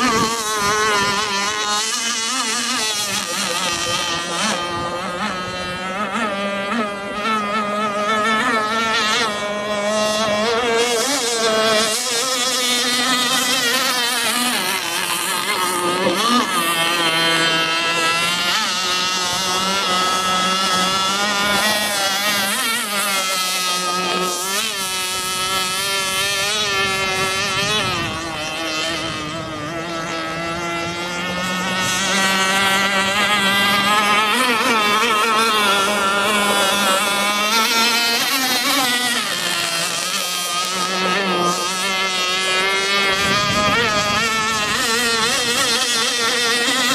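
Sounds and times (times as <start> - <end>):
racing boat engines whining: 0.0 - 46.9.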